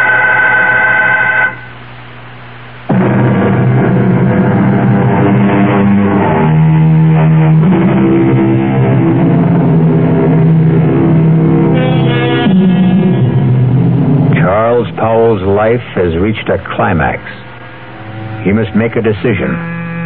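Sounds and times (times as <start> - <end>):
low sustained incidental music: 1.8 - 20.0.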